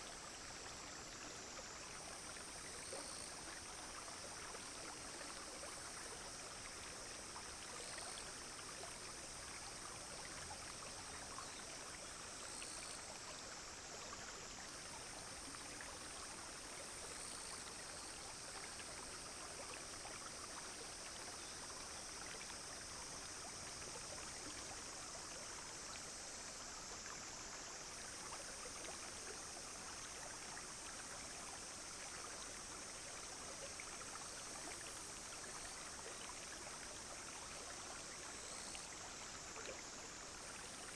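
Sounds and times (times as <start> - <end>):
brook babbling over stones: 0.0 - 40.9
cicadas and insects droning: 0.0 - 40.9.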